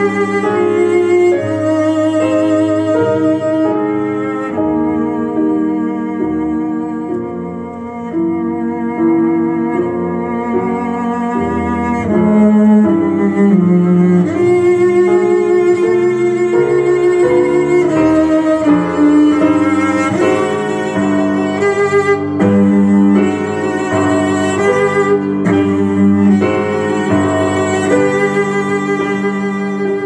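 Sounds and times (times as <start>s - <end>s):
cello and bassoon duet: 0.0s - 30.0s.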